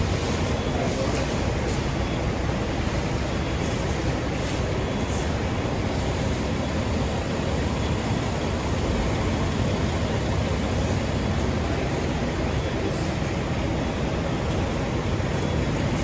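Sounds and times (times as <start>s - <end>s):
engine rumble and hiss: 0.0s - 16.0s.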